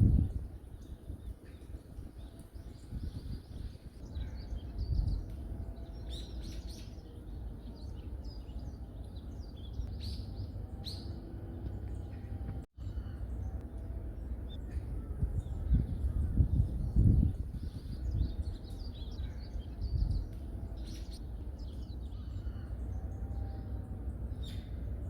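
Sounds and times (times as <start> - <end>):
small birds chirping: 0.0 - 24.9
steady low rumble: 0.0 - 25.0.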